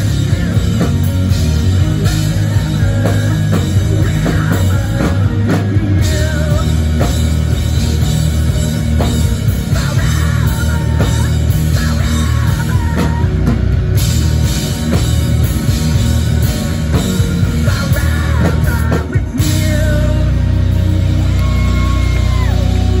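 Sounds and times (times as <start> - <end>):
bass guitar: 0.0 - 23.0
distorted electric guitar: 0.0 - 23.0
drum kit: 0.0 - 23.0.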